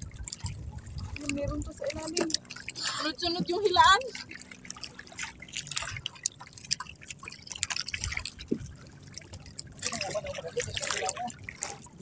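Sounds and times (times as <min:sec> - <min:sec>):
water dripping and splashing: 0:00.0 - 0:12.0.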